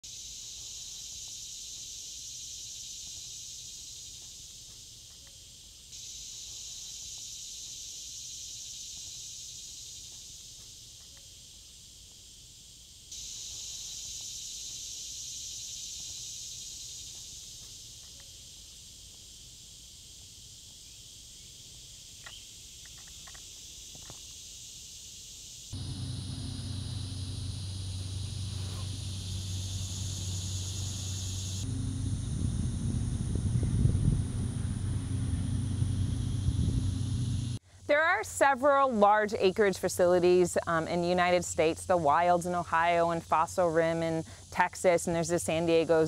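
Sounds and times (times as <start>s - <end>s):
insect chorus drone: 0.0s - 46.0s.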